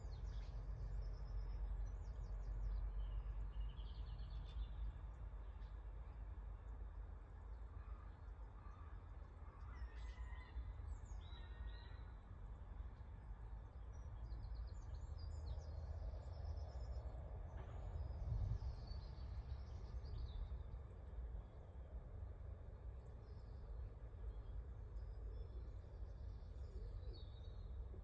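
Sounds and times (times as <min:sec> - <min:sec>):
songbirds calling and singing: 0:00.0 - 0:05.7, 0:09.5 - 0:21.6, 0:22.9 - 0:28.0
low background rumble: 0:00.0 - 0:28.0.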